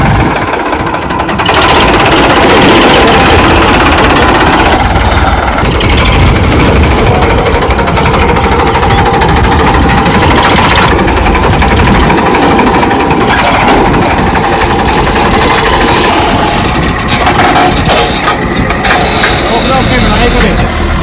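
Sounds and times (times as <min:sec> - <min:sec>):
tractor diesel engine clattering: 0:00.0 - 0:21.0.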